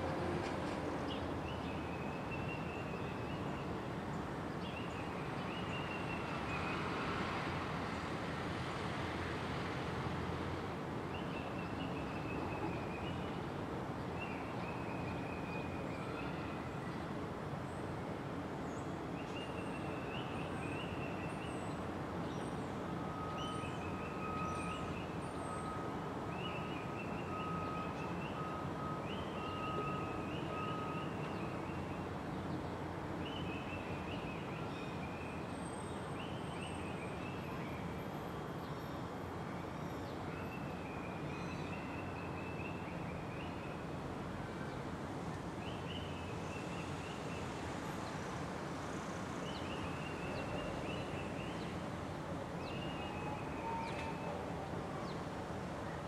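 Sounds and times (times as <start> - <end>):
outdoor background noise: 0.0 - 56.0.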